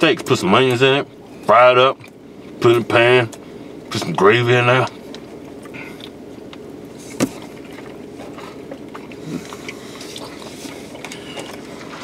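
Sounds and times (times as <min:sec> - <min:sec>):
low hum inside car cabin: 0:00.0 - 0:12.0
chewing and handling food: 0:00.1 - 0:04.2, 0:04.8 - 0:12.0.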